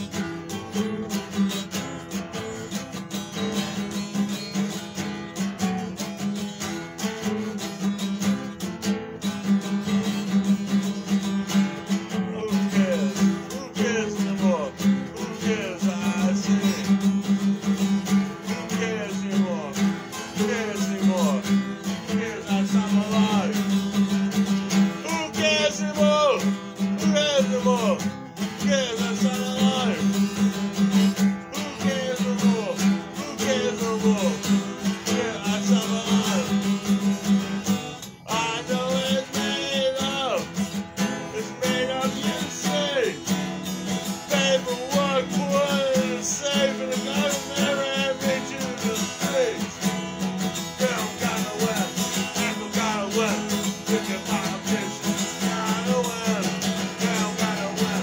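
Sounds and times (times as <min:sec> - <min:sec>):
man singing: 0:00.0 - 0:04.7, 0:09.5 - 0:58.0
acoustic guitar playing: 0:00.0 - 0:58.0.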